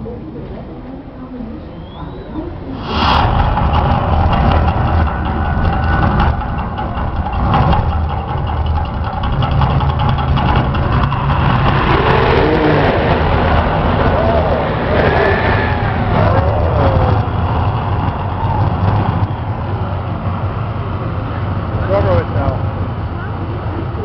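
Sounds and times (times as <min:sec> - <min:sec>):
higher gliding tones: 0:02.5 - 0:24.0
loud low rumble: 0:02.5 - 0:24.0.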